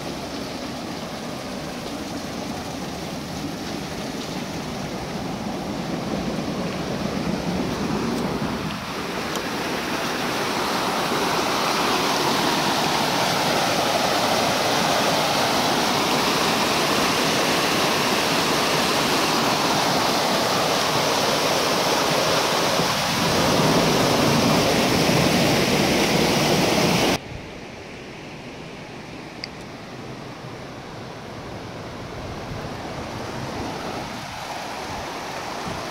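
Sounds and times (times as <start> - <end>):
small waterfall rushing over rock: 0.0 - 27.2, 32.6 - 35.9.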